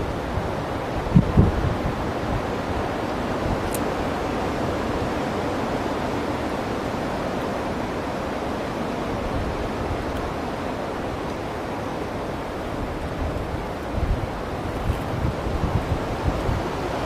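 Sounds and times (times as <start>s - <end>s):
wind buffeting microphone: 0.0s - 17.0s
wind rushing through trees: 0.0s - 17.0s.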